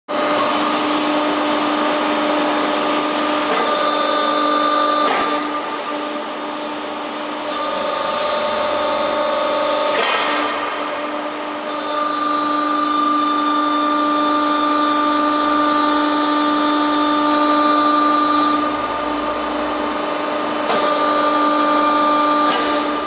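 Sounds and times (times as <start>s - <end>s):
hydraulic power unit whining: 0.1s - 23.0s.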